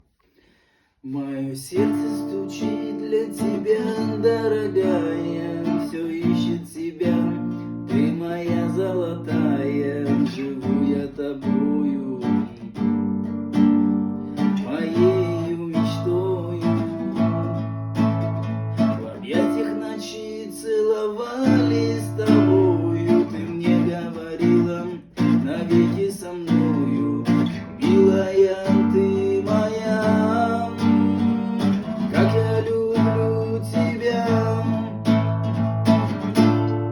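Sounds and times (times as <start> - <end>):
acoustic guitar playing: 1.2 - 36.9.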